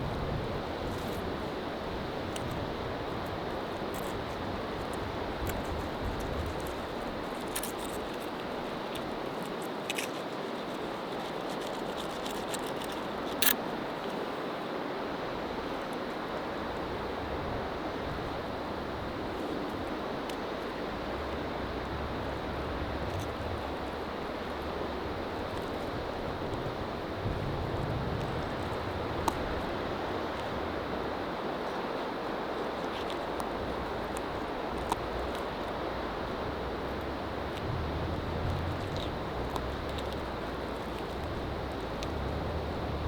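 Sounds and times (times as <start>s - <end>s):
wind rumble on microphone: 0.0s - 9.3s, 15.2s - 43.0s
wind and waves: 0.0s - 43.0s.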